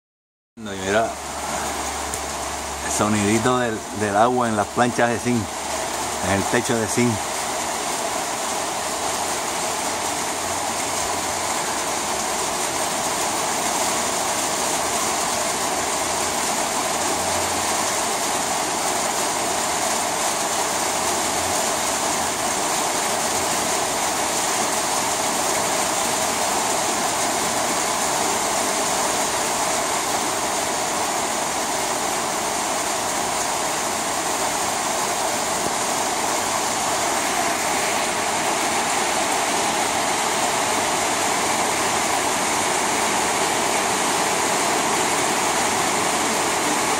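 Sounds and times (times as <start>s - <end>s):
heavy rain on a metal roof: 0.6s - 46.9s.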